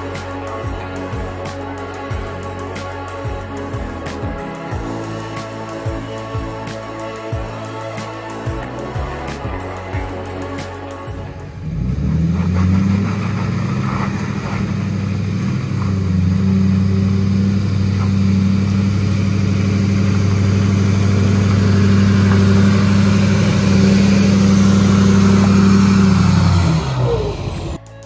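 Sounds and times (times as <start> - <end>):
pickup truck engine running: 0.0 - 27.8.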